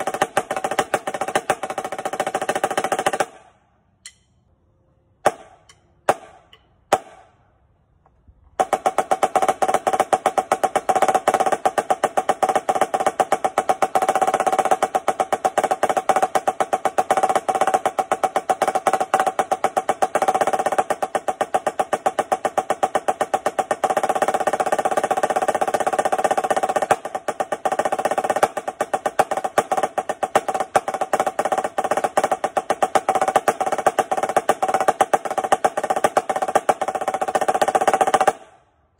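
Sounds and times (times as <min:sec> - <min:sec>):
snare drum roll: 0:00.0 - 0:03.4, 0:08.6 - 0:38.5.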